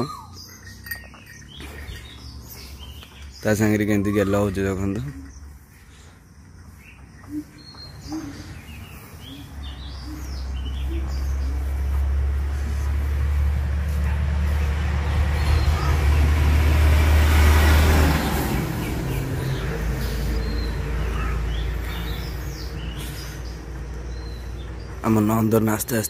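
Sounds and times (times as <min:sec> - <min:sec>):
motorbike passing: 0:00.0 - 0:25.9.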